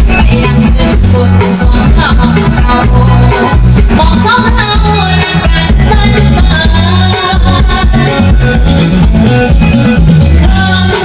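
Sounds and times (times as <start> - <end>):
heavy bass beat: 0.0 - 10.8
loud song with singing: 0.0 - 11.0.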